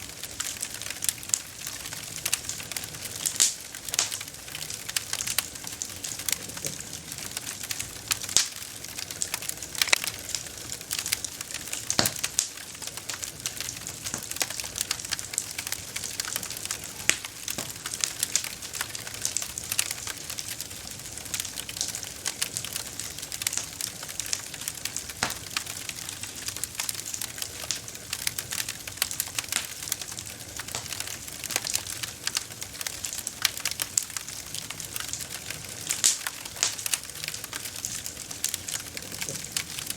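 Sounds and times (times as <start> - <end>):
campfire crackling: 0.0 - 39.9
burning wood snapping and popping: 0.1 - 39.9.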